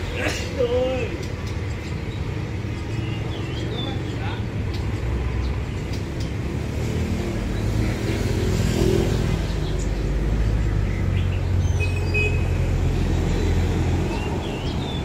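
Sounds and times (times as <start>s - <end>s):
caged songbirds chirping: 0.0s - 15.0s
road traffic rumble: 0.0s - 15.0s.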